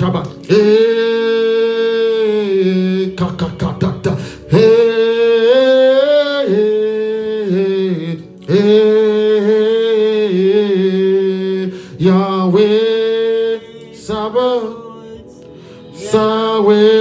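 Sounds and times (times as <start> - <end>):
person singing wordless notes: 0.0 - 17.0.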